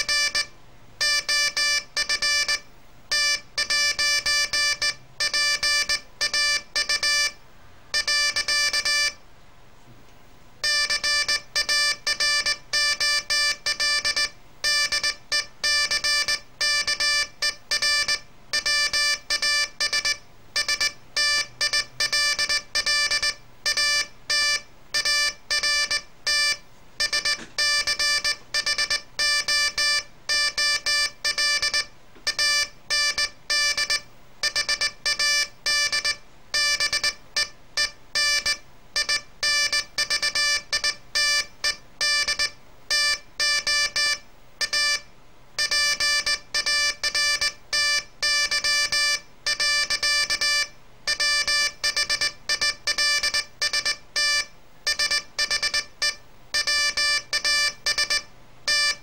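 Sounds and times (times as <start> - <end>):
morse code beeps: 0.0 - 7.4, 8.0 - 9.2, 10.6 - 45.0, 45.6 - 59.0.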